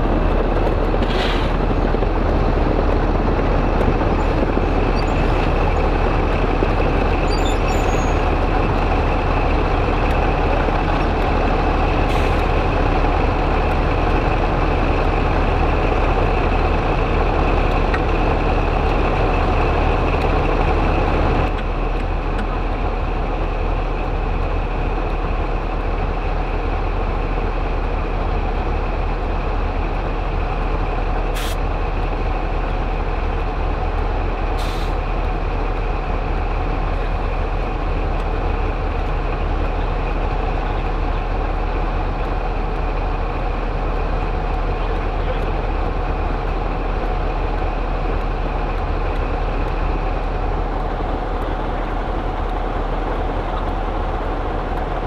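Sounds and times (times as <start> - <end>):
diesel locomotives idling: 0.0 - 55.0.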